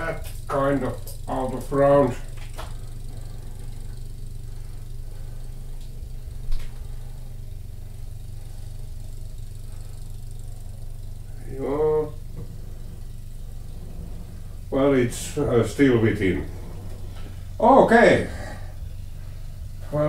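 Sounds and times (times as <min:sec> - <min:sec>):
snow blower engine droning: 0:00.0 - 0:20.0.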